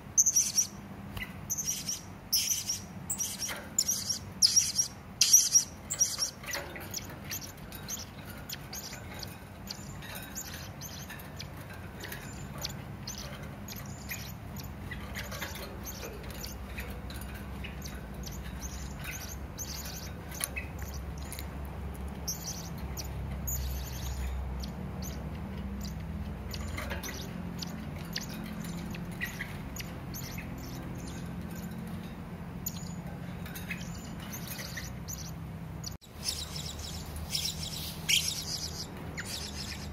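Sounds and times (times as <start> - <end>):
low steady hum: 0.0 - 39.9
parrot chirping calls: 0.0 - 39.9.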